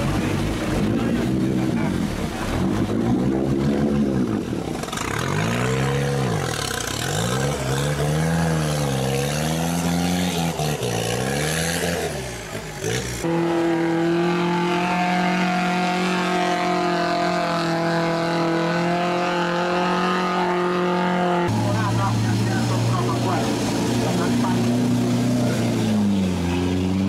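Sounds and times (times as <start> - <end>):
diesel engine revving: 0.0 - 27.0
truck churning through mud: 0.0 - 27.0.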